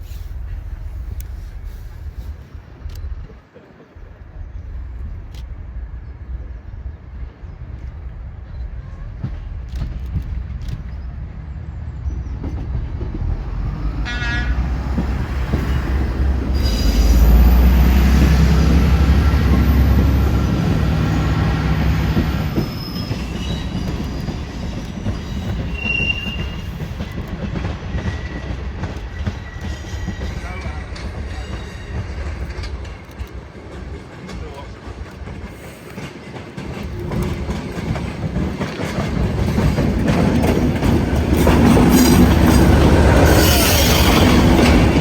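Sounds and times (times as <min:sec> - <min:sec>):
diesel locomotive engine: 0:00.0 - 0:45.0.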